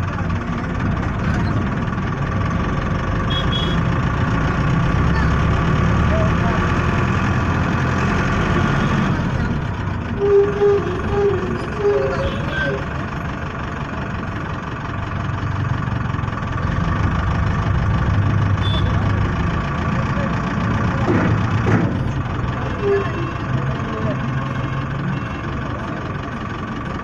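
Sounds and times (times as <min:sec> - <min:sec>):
traffic engines running: 0:00.0 - 0:27.0.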